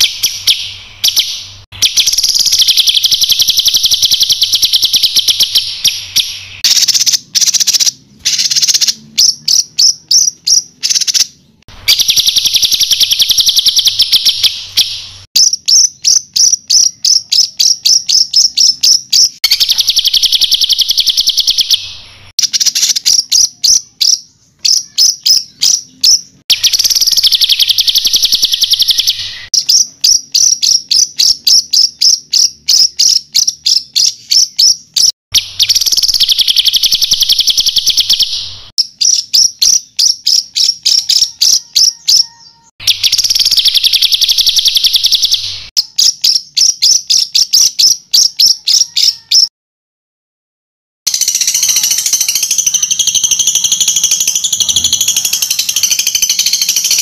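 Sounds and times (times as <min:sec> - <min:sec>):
songbird repeated sharp notes: 0:00.0 - 0:49.5, 0:51.1 - 0:57.0.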